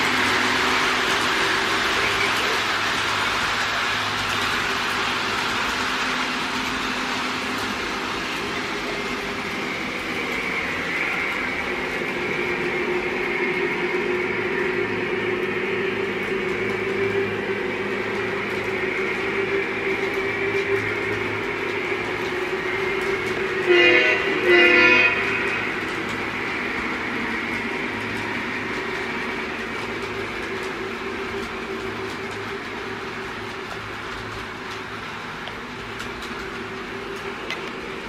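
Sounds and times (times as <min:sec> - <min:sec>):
model locomotive engine hum: 0:00.0 - 0:38.0
wheels rolling on track: 0:00.0 - 0:38.0.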